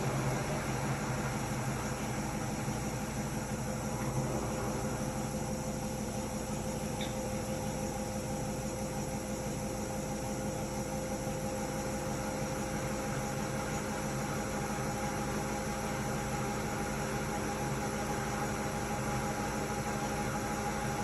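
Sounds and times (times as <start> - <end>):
washing machine running: 0.0 - 21.0.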